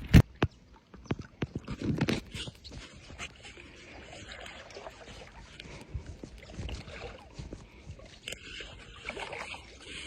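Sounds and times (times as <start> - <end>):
paddle splashing water: 0.0 - 10.0.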